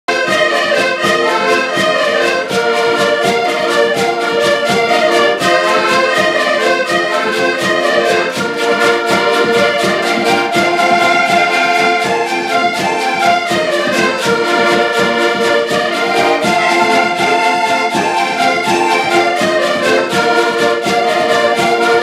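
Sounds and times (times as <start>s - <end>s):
accordions playing folk tune: 0.1s - 22.0s.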